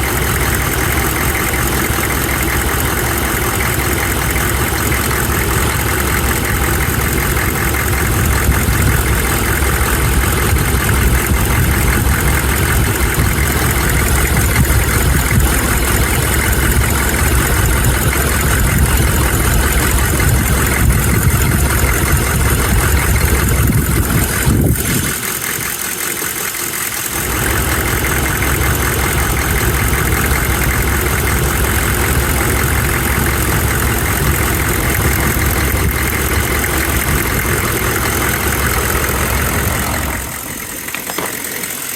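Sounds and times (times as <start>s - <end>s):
diesel engine idling with knock: 0.0s - 41.9s.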